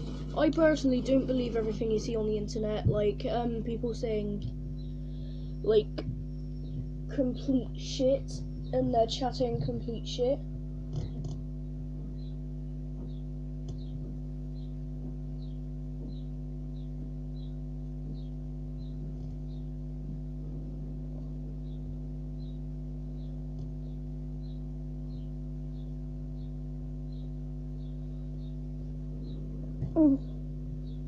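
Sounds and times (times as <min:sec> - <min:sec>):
steady hum of fixed tones: 0:00.0 - 0:31.0.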